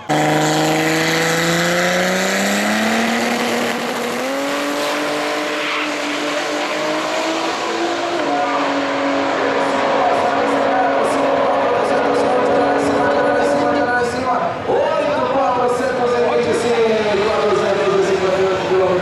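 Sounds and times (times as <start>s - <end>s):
racing car engine at full throttle: 0.0s - 19.0s.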